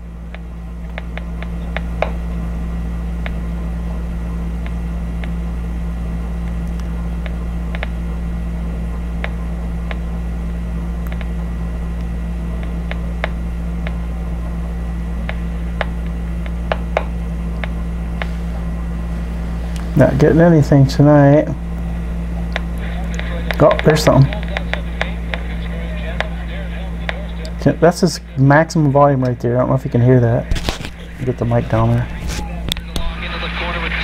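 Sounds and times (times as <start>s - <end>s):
radio static drone: 0.0s - 34.0s
static clicks: 0.2s - 2.5s, 3.1s - 3.6s, 4.6s - 5.5s, 6.4s - 8.0s, 8.9s - 10.2s, 11.0s - 20.4s, 21.7s - 29.4s, 30.4s - 34.0s.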